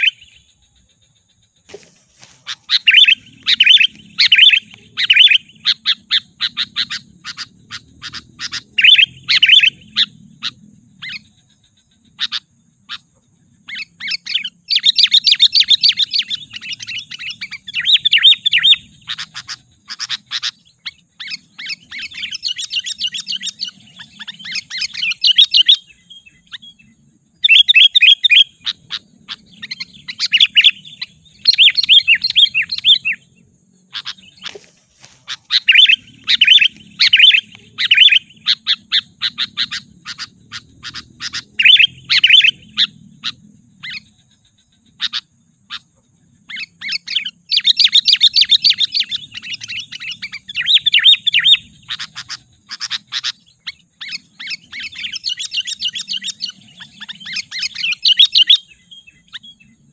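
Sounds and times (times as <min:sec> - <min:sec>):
bird singing chattering notes: 0:00.0 - 0:59.9.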